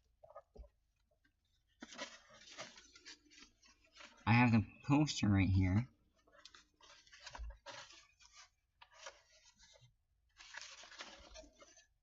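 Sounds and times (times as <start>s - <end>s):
paper and packaging rustling: 0.3s - 4.3s, 5.7s - 12.0s.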